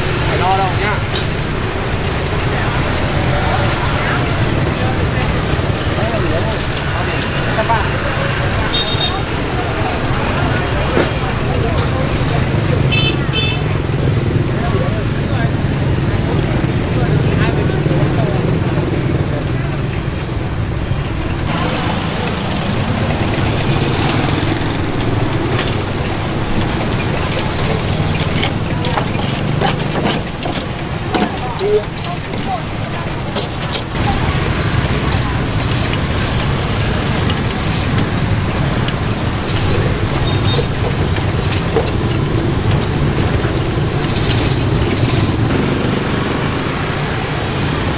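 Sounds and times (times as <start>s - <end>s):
motorbikes passing: 0.0s - 47.9s.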